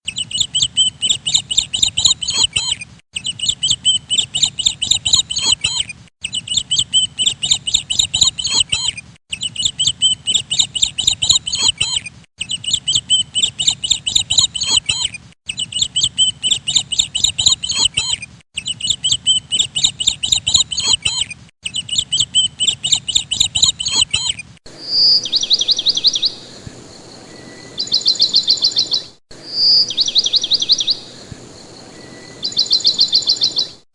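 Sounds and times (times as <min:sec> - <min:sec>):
bird rapid trills: 0:00.0 - 0:33.8
small bird chirping: 0:00.0 - 0:33.9.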